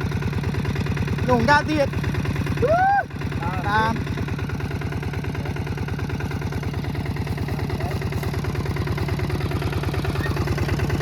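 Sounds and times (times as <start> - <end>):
tractor engine chugging: 0.0 - 11.0.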